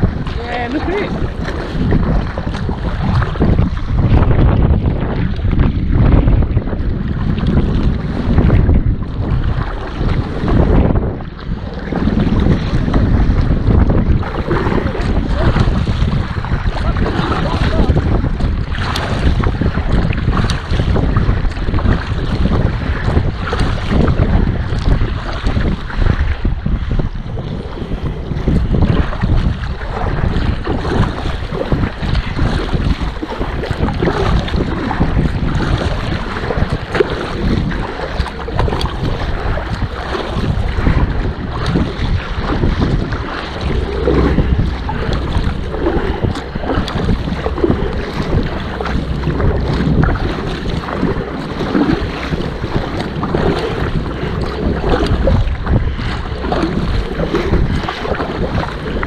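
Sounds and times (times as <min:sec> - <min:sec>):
water splashing around kayak: 0:00.0 - 0:59.0
wind buffeting microphone: 0:00.0 - 0:59.0.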